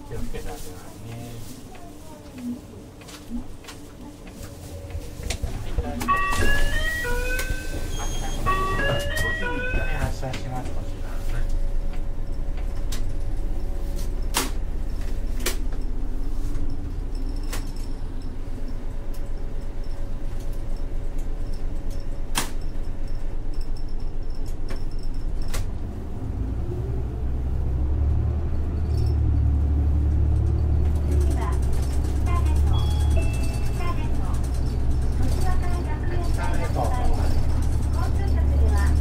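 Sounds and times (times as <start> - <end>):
bus diesel engine accelerating: 0.0 - 39.0.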